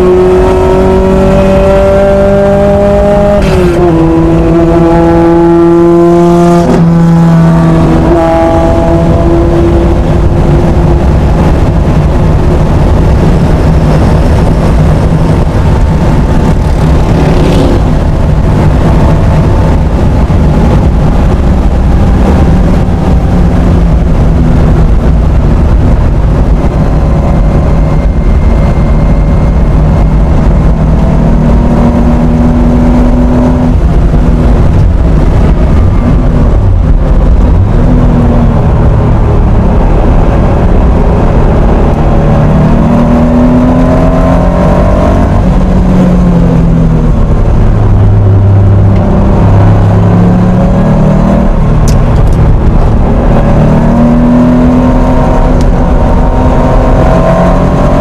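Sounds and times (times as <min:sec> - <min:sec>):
car engine revving at speed: 0:00.0 - 0:58.0
wind and road noise: 0:00.0 - 0:58.0.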